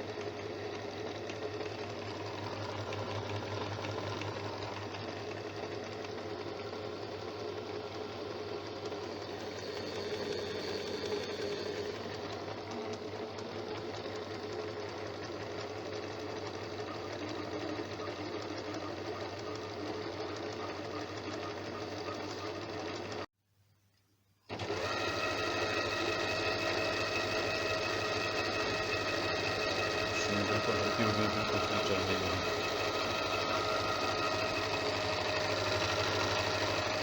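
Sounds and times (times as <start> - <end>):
sewing machine whining: 0.0 - 23.3, 24.5 - 37.0.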